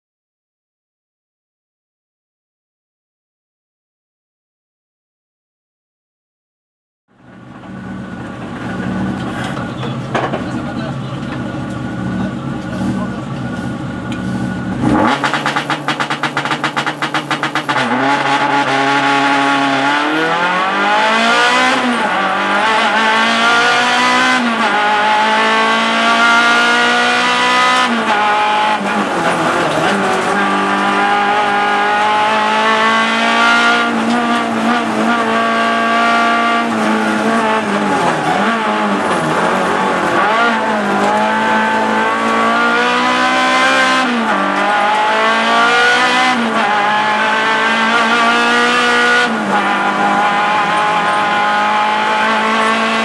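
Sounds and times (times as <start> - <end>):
race car engine revving: 7.4 - 53.0.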